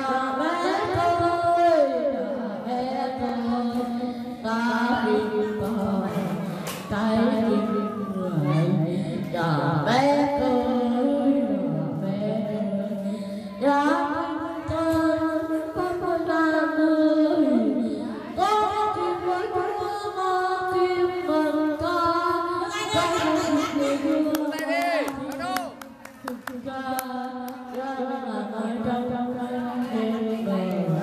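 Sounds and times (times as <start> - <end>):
person singing into microphone: 0.0 - 25.4, 26.3 - 31.0.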